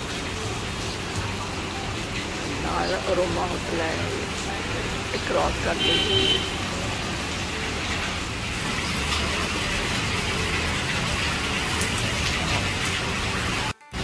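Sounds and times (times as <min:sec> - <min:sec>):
heavy rain splashing on paving: 0:00.0 - 0:14.0.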